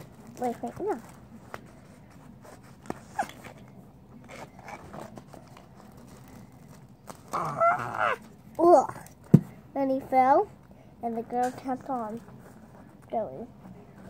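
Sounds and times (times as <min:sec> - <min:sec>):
plastic dolls rustling: 0:00.0 - 0:09.4, 0:11.0 - 0:14.0.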